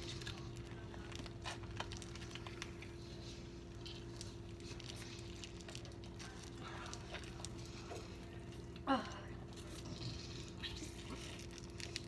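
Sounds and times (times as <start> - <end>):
plastic wrap crinkling: 0.0 - 12.0
steady hum: 0.0 - 12.0.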